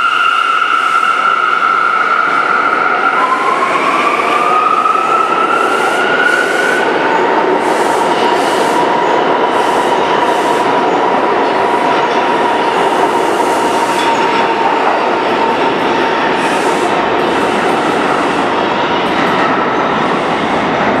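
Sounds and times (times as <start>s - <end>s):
high train whine: 0.0s - 21.0s.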